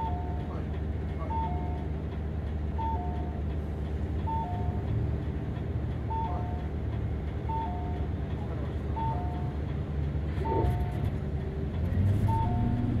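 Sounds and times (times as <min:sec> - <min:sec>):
bus engine idling hum: 0:00.0 - 0:13.0.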